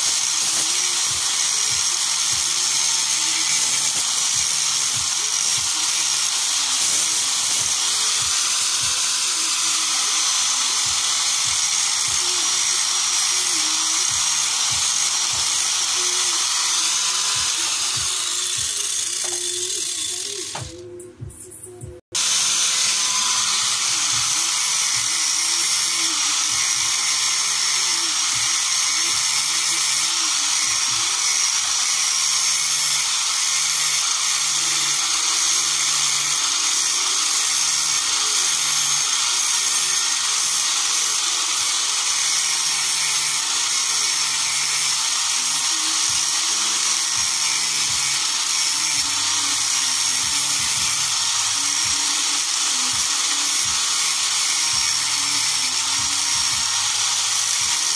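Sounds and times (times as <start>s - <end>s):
angle grinder sanding metal: 0.0s - 21.0s, 21.9s - 57.9s.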